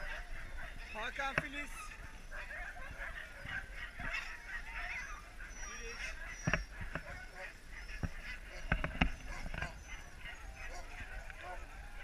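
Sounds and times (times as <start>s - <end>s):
huskies yipping and whining: 0.0s - 12.0s.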